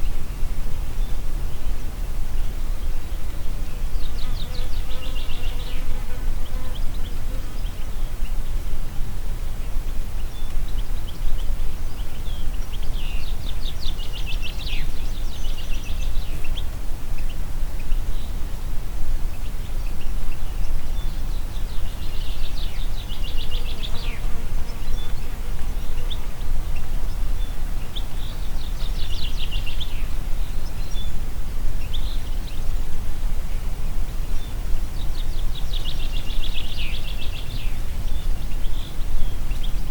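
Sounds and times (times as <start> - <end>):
wind through forest: 0.0 - 39.9.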